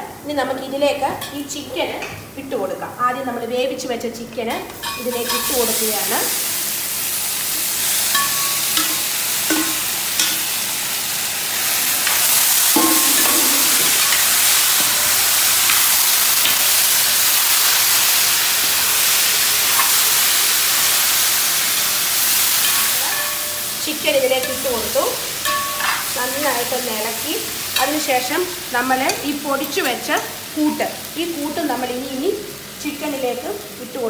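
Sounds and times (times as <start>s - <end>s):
chicken sizzling in oil: 4.8s - 34.0s.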